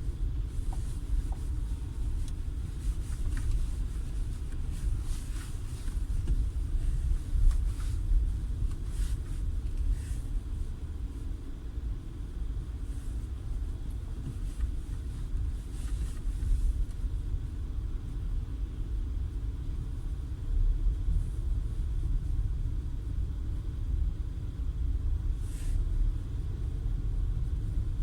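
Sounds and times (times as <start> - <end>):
car road rumble: 0.0 - 28.0.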